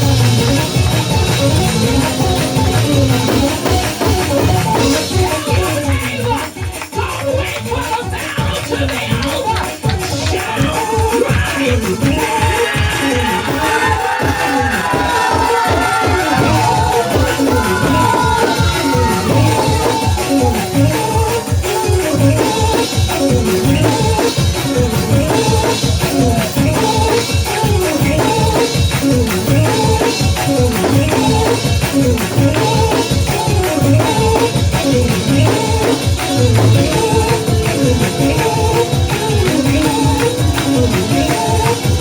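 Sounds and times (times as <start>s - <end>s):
driving drum beat: 0.0s - 42.0s
keyboard or organ: 0.0s - 42.0s
tambourine: 0.0s - 42.0s
upbeat gospel music: 0.0s - 42.0s.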